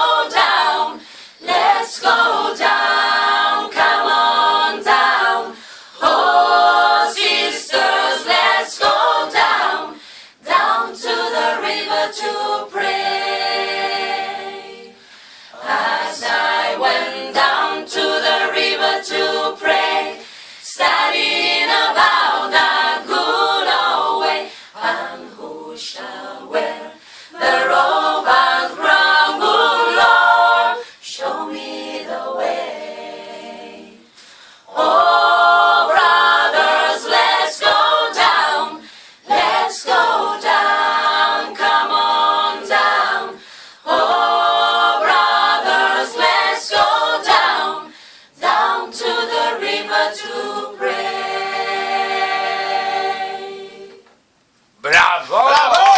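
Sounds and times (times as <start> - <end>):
choir singing a cappella: 0.0 - 54.2.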